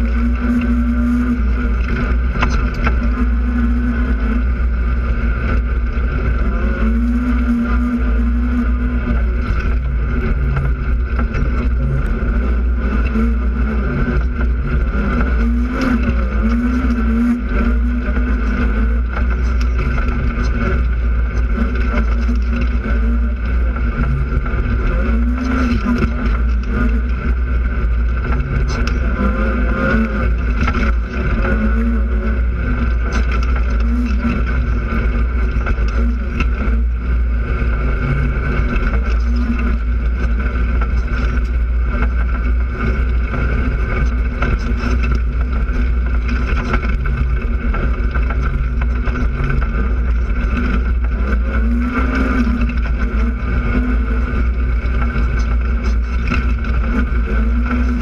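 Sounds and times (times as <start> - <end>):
constant low rumble: 0.0 - 58.0
off-road vehicle engine running: 0.0 - 58.0.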